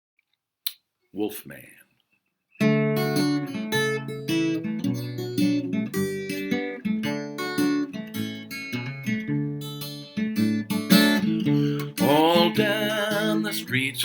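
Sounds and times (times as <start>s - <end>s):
acoustic guitar strumming: 2.6s - 14.0s.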